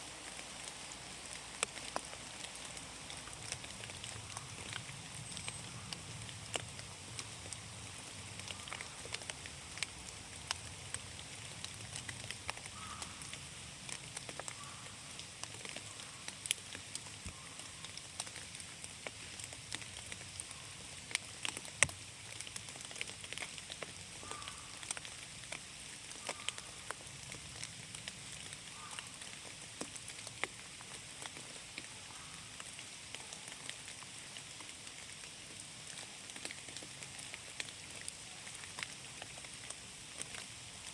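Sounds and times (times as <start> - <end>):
rain pattering in forest: 0.0 - 40.9.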